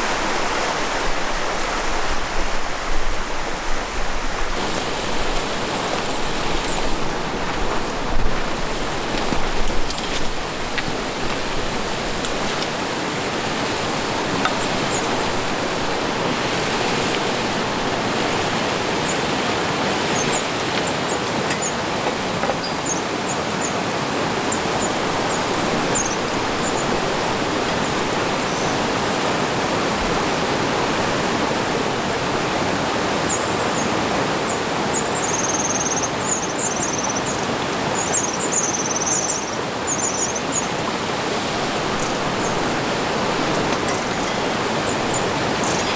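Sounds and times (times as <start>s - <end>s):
river water rushing: 0.0s - 35.2s, 39.6s - 45.9s.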